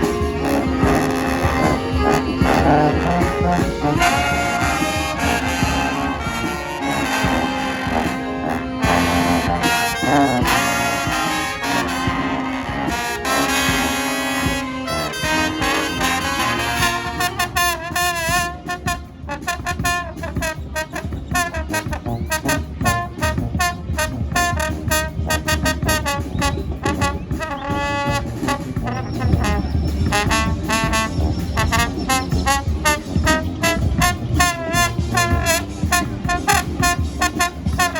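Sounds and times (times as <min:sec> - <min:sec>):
brass band playing: 0:00.0 - 0:37.9
steady beat: 0:00.0 - 0:37.9.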